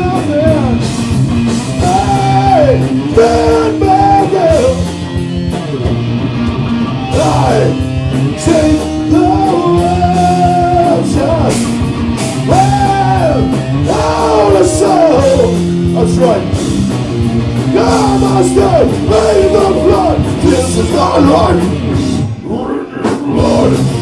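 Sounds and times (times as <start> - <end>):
electric guitar sliding melody: 0.0 - 24.0
live rock band playing: 0.0 - 24.0.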